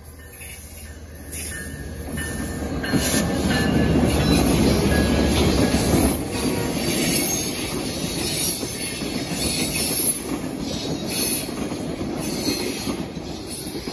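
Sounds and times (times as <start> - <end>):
train wheels rumbling on rail: 0.0 - 13.9.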